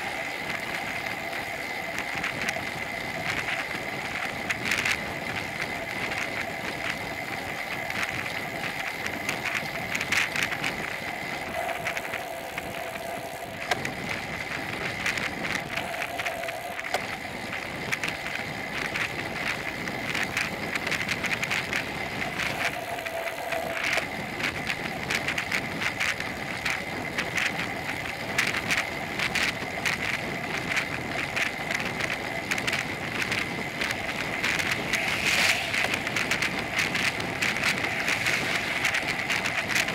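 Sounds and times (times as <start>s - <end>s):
bike rattling clicks: 0.0s - 39.9s
constant high whine: 0.0s - 39.9s
wind rush: 0.0s - 39.9s.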